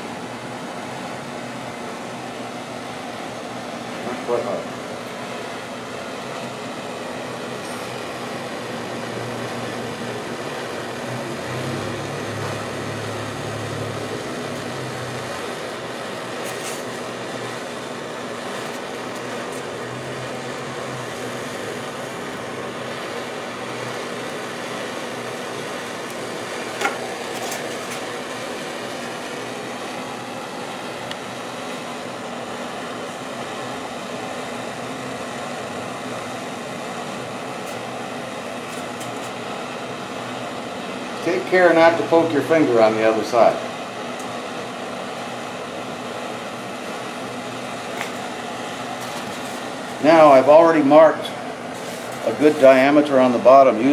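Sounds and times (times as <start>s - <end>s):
propane torch hissing: 0.0s - 53.9s.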